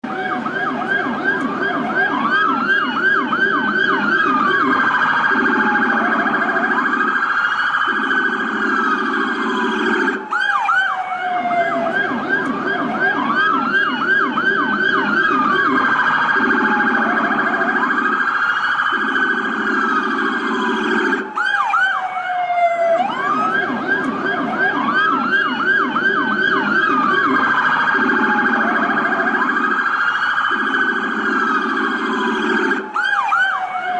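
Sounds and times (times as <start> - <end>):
police siren wailing and yelping: 0.0 - 33.9.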